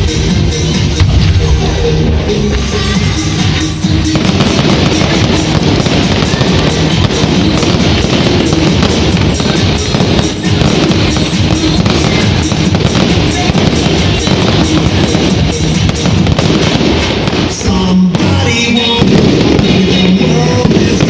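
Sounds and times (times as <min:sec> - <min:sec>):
fireworks bangs and crackles: 0:00.0 - 0:21.0
loud music playing: 0:00.0 - 0:21.0.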